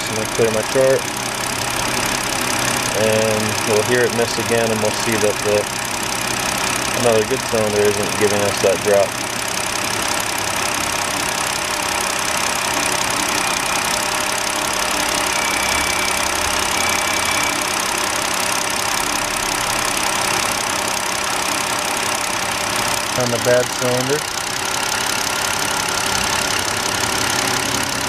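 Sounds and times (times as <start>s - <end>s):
car engine idling with misfire: 0.0s - 28.0s.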